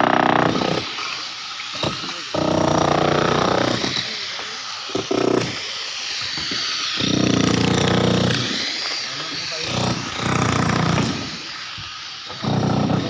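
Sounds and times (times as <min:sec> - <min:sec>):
concrete-cutting power tool: 0:00.0 - 0:13.0.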